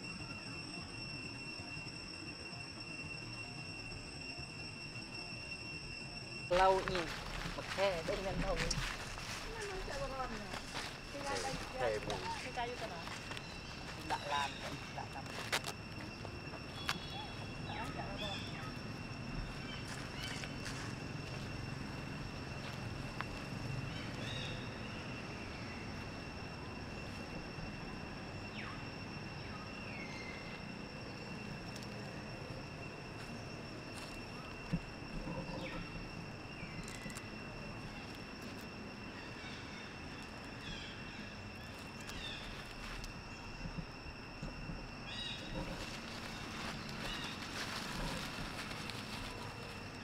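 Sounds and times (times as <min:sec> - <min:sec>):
high insect drone: 0:00.0 - 0:50.0
outdoor background noise: 0:00.0 - 0:50.0.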